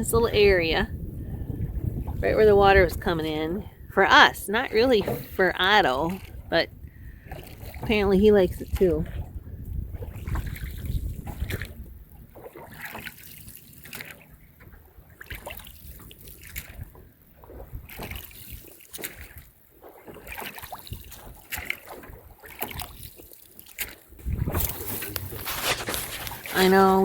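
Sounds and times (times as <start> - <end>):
water trickling off oars: 0.0 - 27.0
oars splashing in water: 1.3 - 27.0.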